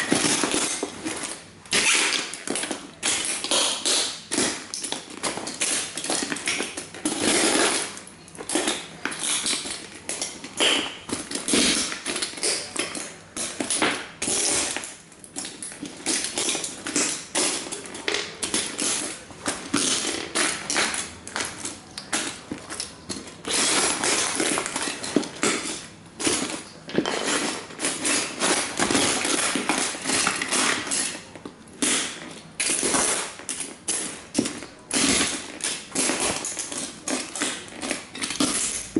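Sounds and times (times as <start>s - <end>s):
plastic toys cracking under boots: 0.0s - 38.9s.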